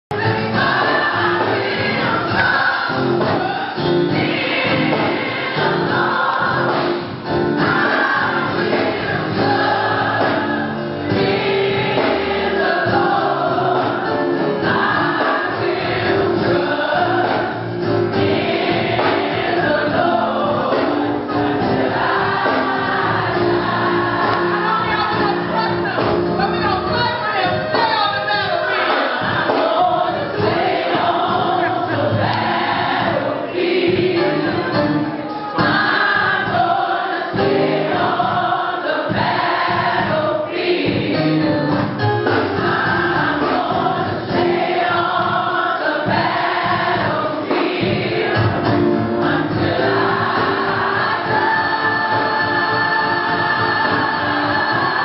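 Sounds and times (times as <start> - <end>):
choir singing: 0.1 - 26.5, 28.2 - 41.6, 42.2 - 55.0
women singing gospel: 0.1 - 41.4, 42.2 - 55.0.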